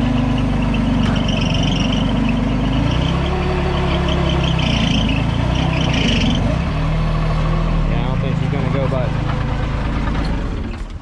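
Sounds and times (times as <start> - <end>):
loader engine running hard: 0.0 - 11.0.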